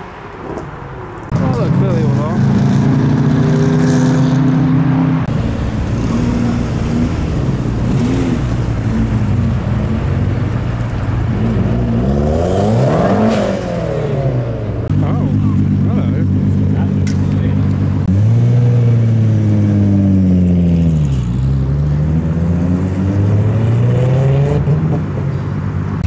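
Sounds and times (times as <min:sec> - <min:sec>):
car engines running and pulling away: 0:00.0 - 0:26.0.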